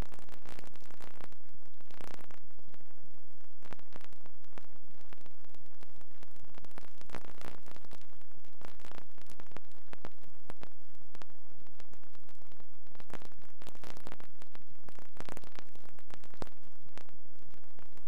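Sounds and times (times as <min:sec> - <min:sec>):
crackles and clicks: 0:00.0 - 0:18.0
static hiss: 0:00.0 - 0:18.0.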